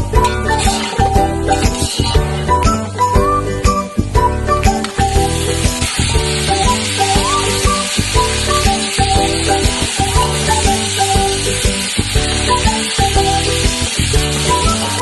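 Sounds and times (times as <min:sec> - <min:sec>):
instrumental background music: 0:00.0 - 0:15.0
food sizzling in hot oil: 0:00.1 - 0:03.0, 0:03.9 - 0:15.0.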